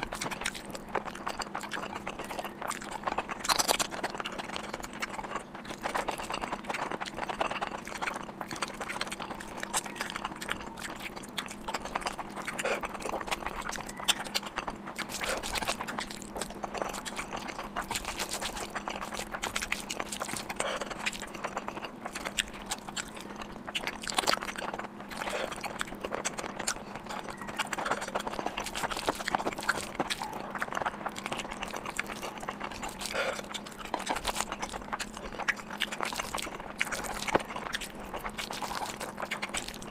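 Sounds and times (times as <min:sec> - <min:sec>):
person chewing with mouth sounds: 0:00.0 - 0:39.9.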